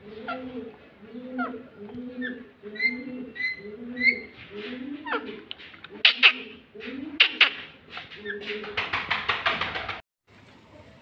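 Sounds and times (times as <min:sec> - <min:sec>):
pigeon cooing: 0:00.0 - 0:08.9.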